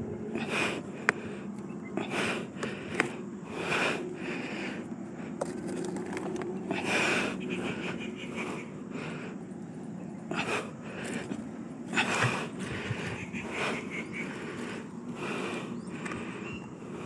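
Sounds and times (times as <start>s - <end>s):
person breathing heavily: 0.0s - 5.5s, 6.6s - 17.0s.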